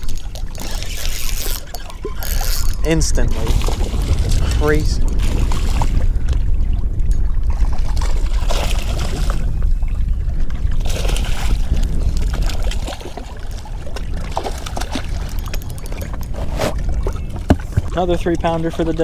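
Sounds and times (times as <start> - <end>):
water sloshing against boat hull: 0.0 - 19.0
low rumble: 2.8 - 18.1.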